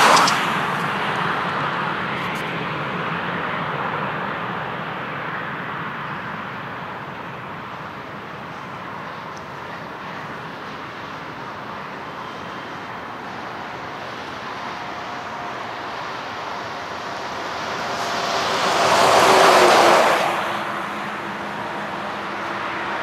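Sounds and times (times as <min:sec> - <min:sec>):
jet engine roar: 0:00.0 - 0:06.7, 0:07.3 - 0:23.0.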